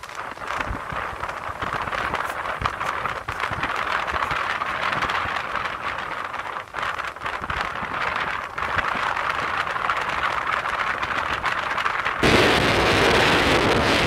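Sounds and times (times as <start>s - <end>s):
low buffets: 0.0s - 14.0s
surf breaking on beach: 0.0s - 14.0s.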